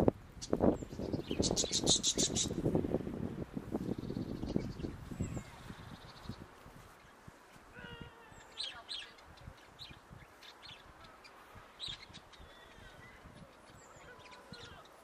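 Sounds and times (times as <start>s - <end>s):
small birds chirping: 0.3s - 2.7s, 3.7s - 15.0s.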